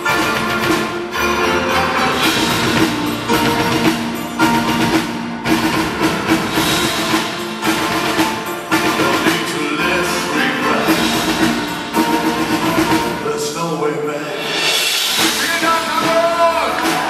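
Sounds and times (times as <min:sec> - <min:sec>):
live rock band with orchestra: 0:00.0 - 0:17.0
percussion hits: 0:00.0 - 0:17.0.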